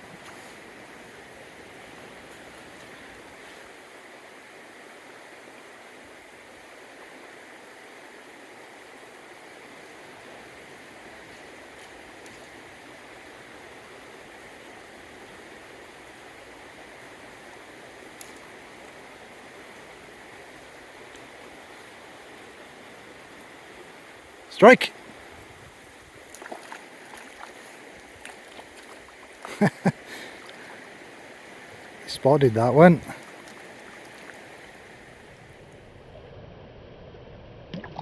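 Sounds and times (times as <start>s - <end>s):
stream running over stones: 0.0s - 35.8s.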